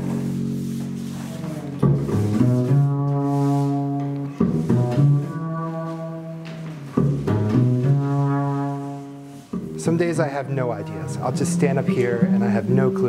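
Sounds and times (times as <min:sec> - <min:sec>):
bowed double bass: 0:00.0 - 0:13.0.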